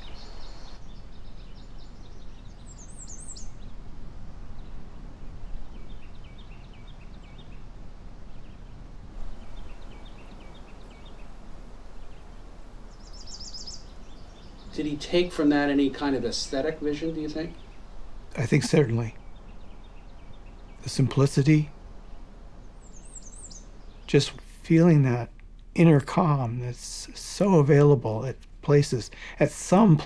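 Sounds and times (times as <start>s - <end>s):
small birds calling: 0.0s - 30.0s
steady low background noise: 0.0s - 30.0s.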